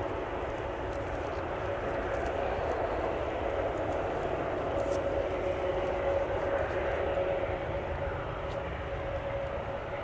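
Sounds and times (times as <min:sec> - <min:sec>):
distant jet engines humming: 0:00.0 - 0:10.0.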